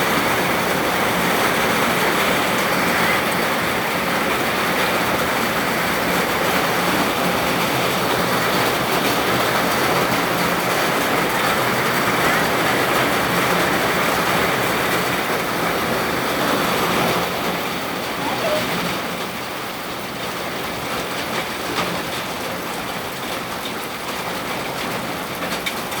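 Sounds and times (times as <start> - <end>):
steady rain hiss: 0.0 - 25.9.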